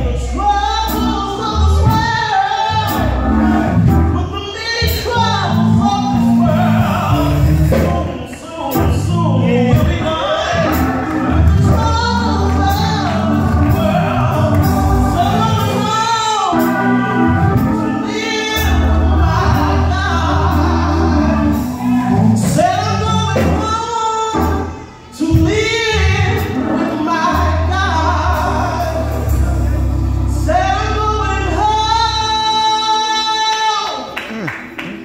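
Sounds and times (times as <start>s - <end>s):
man singing into a microphone: 0.0s - 29.7s, 30.3s - 34.5s
instrumental accompaniment with bass: 0.0s - 35.0s.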